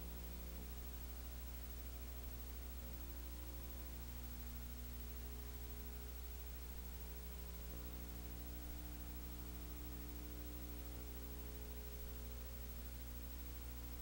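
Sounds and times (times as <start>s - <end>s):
constant hiss: 0.0s - 14.0s
electrical mains hum: 0.0s - 14.0s.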